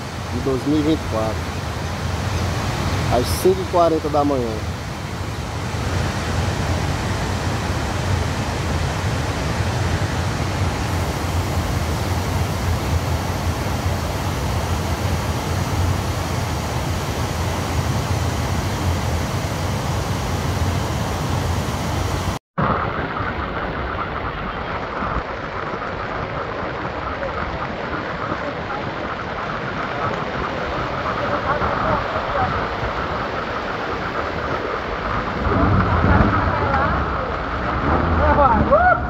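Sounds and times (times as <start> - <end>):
floodwater running down street: 0.0 - 21.3, 22.6 - 39.0
river rushing over rapids: 0.0 - 39.0
deep rumble: 4.7 - 39.0.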